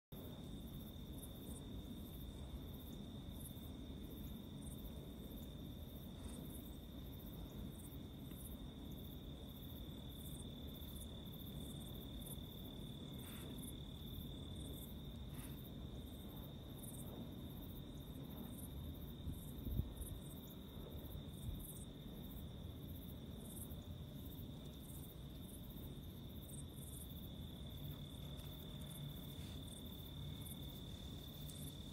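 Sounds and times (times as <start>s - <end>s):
crickets trilling: 0.1s - 31.9s.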